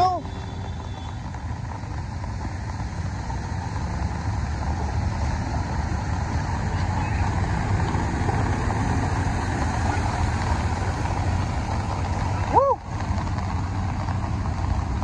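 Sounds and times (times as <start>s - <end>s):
low rumble: 0.0s - 15.0s
road noise: 0.0s - 15.0s
vehicle engine through floodwater: 0.0s - 15.0s.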